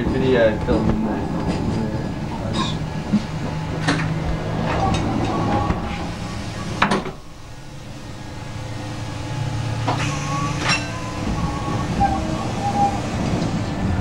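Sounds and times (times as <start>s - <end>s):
electric train rumbling: 0.0s - 14.0s
wheels clicking on track: 0.0s - 14.0s.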